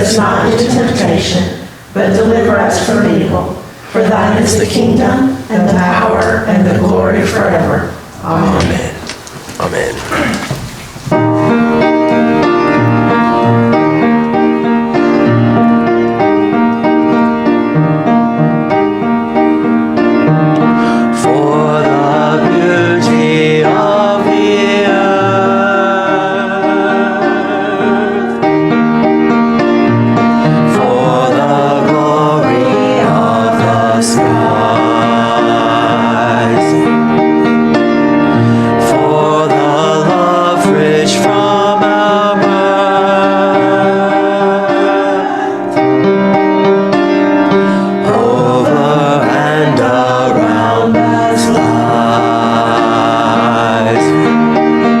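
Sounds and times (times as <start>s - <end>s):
piano sustained chords: 0.0s - 9.0s, 11.1s - 55.0s
choir singing: 0.0s - 18.2s, 18.9s - 55.0s.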